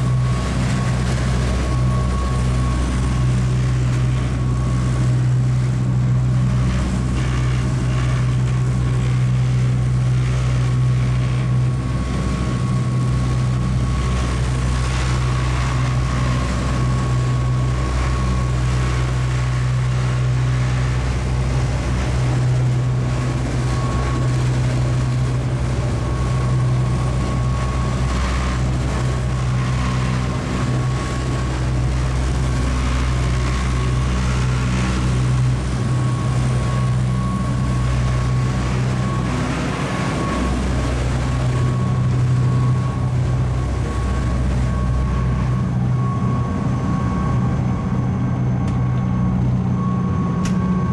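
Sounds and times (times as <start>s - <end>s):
ferry engines droning: 0.0s - 50.9s
thin steady whine: 0.0s - 50.9s.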